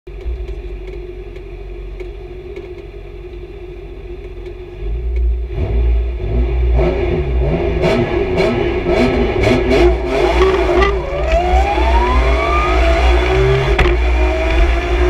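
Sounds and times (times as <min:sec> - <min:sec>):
car engine idling and revving: 0:00.1 - 0:15.0.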